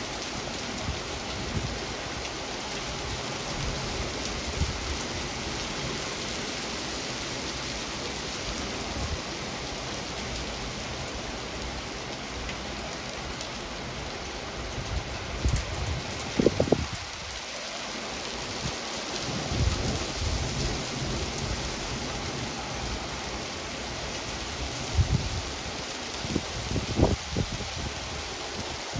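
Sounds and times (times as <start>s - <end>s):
rain falling: 0.0s - 28.9s.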